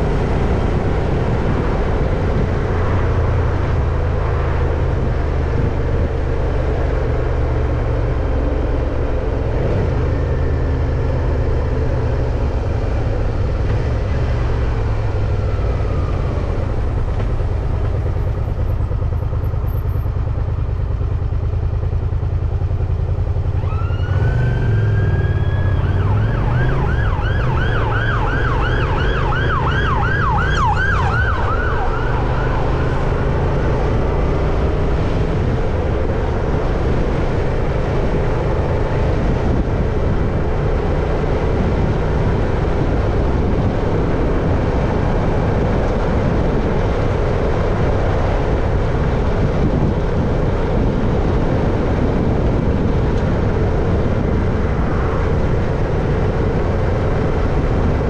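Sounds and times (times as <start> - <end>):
emergency vehicle siren: 0.0 - 20.4, 23.2 - 58.0
wind and road noise rumble: 0.0 - 58.0.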